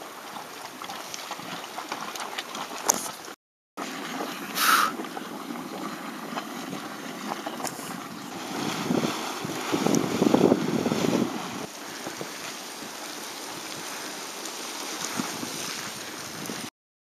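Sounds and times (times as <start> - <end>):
hot spring gurgling and hissing: 0.0 - 16.7
small water splashes: 0.0 - 16.7.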